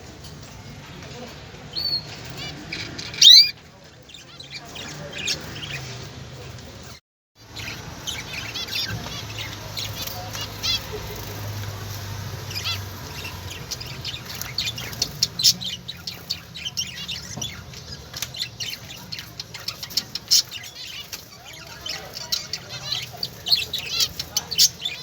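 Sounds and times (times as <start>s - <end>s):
small birds chirping: 1.0s - 6.1s, 6.8s - 25.0s.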